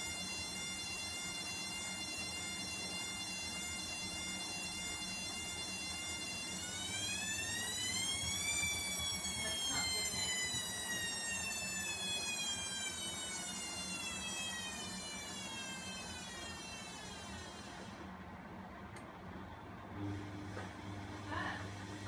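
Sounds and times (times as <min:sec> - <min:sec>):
washing machine drum motor whining: 0:00.0 - 0:22.0.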